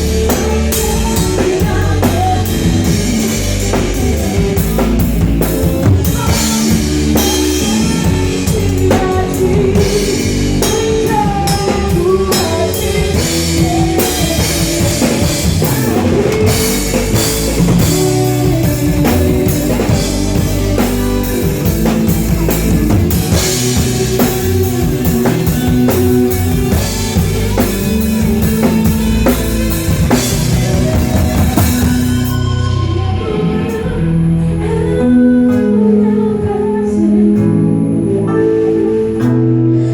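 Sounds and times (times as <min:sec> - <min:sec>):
drum kit with cymbals: 0:00.0 - 0:32.9
bass guitar: 0:00.0 - 0:39.9
guitar: 0:00.0 - 0:39.9.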